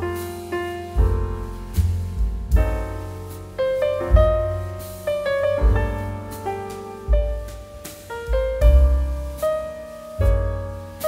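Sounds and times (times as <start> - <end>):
piano chords with bass notes: 0.0 - 11.0.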